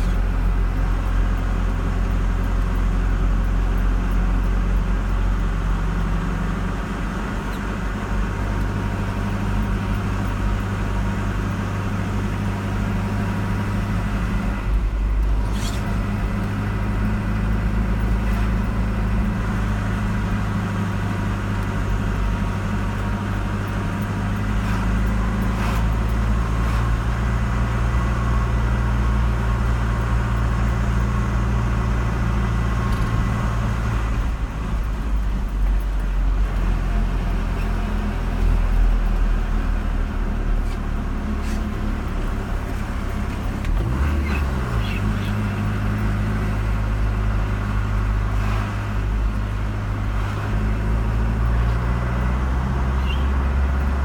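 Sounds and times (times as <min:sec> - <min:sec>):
car engine hum: 0:00.0 - 0:54.0
tyre and road noise: 0:00.0 - 0:54.0.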